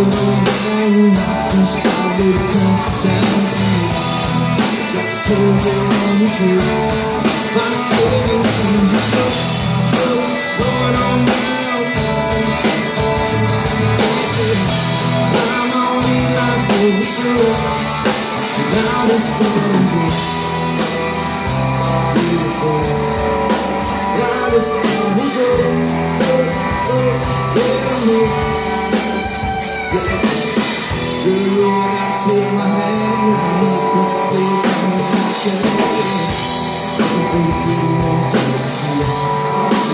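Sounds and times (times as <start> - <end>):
drum kit: 0.0 - 39.9
guitars: 0.0 - 39.9
person singing lead: 0.0 - 39.9.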